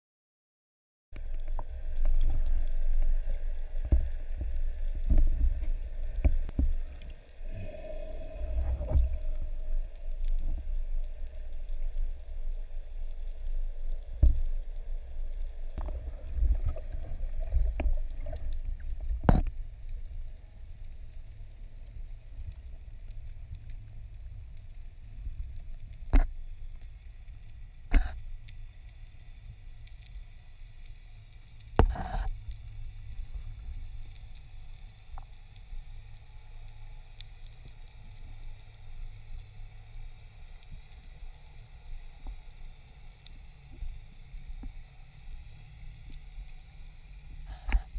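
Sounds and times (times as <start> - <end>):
underwater rumble of moving water: 1.2 - 47.9.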